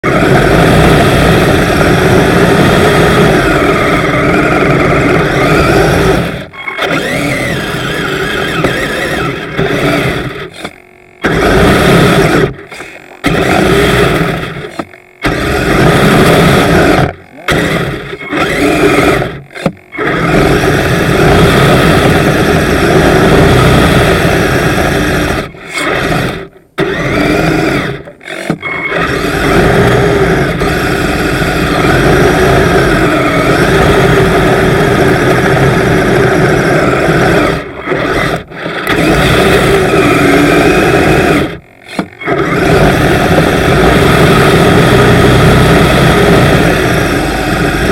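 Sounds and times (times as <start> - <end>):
electric motors whining: 0.0 - 47.9.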